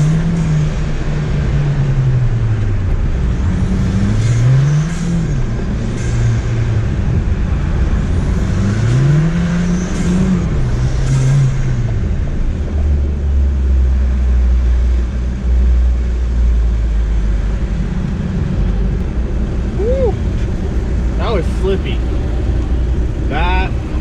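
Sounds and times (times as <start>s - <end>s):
turbocharged car engine revving: 0.0s - 24.0s.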